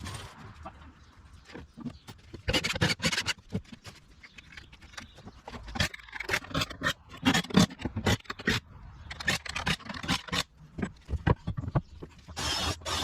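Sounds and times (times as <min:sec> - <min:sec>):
sharp knocks and scrapes: 0:00.0 - 0:13.0.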